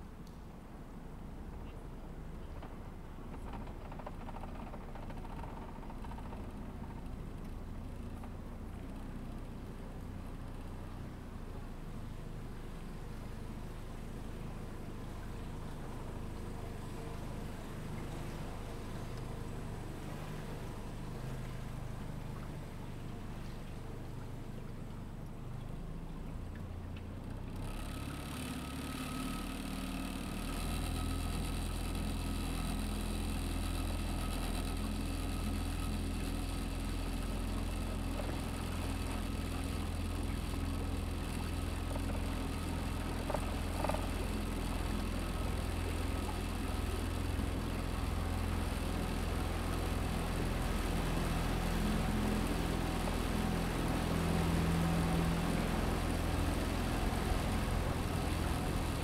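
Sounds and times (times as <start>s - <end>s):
small boat engine humming: 0.0s - 59.0s.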